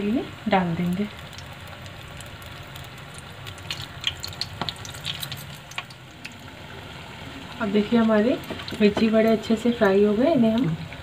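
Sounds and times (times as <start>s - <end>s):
deep-frying sizzle: 0.0s - 11.0s
oil crackles and pops: 0.6s - 6.8s, 8.2s - 11.0s.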